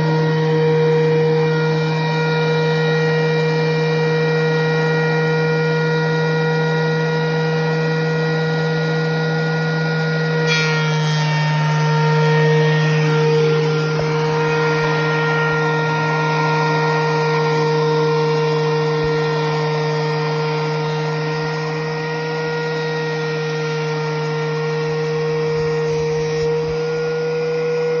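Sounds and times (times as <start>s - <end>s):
thickness planer cutting board: 0.0s - 28.0s.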